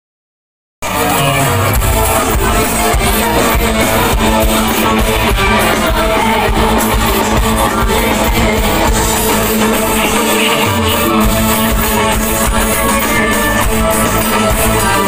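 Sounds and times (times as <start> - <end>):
live music with singing and guitar: 0.8 - 15.0.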